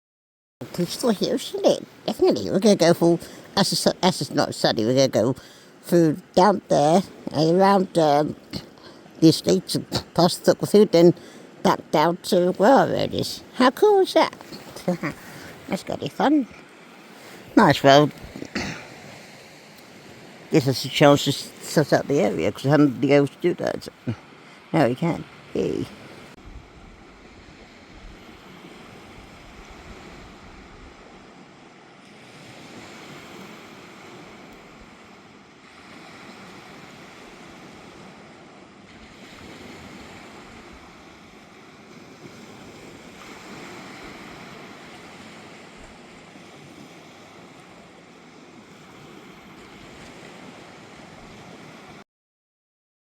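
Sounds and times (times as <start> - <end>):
sea surf washing on beach: 0.6 - 52.0
wind: 0.6 - 52.0.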